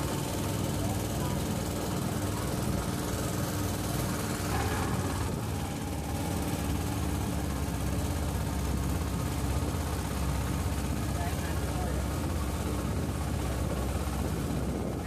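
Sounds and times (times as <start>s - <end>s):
motorboat engine running: 0.0s - 15.0s
water rushing in wake: 0.0s - 15.0s.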